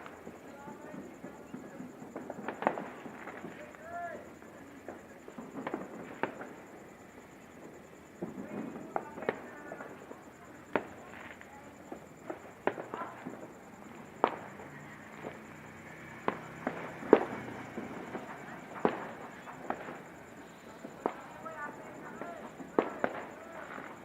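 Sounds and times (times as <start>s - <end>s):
firecrackers banging: 0.0s - 24.0s.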